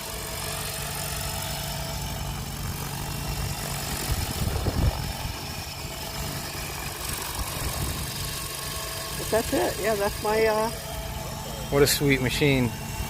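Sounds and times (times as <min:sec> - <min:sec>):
helicopter rotor humming: 0:00.0 - 0:13.0.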